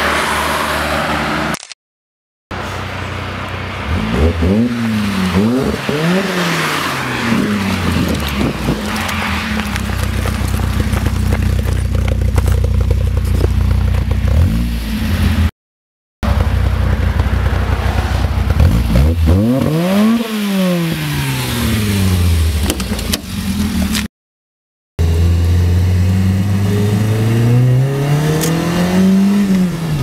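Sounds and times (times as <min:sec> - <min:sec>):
car engine running and revving: 0:02.6 - 0:15.5, 0:16.2 - 0:24.1, 0:25.0 - 0:30.0.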